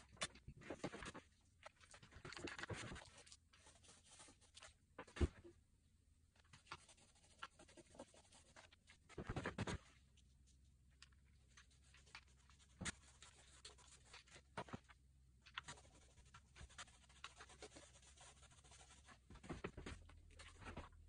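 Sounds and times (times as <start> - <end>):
scratchy rubbing and rustling: 0.4 - 5.2, 6.4 - 21.0.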